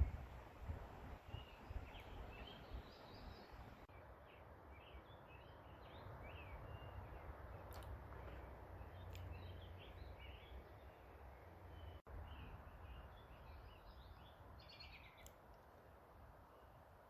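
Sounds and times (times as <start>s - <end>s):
small birds chirping: 1.2s - 15.6s.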